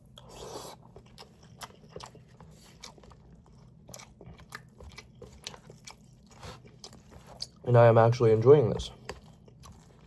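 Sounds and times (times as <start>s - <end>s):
person chewing food: 0.0s - 7.6s, 8.6s - 10.0s
low steady hum: 0.0s - 10.0s.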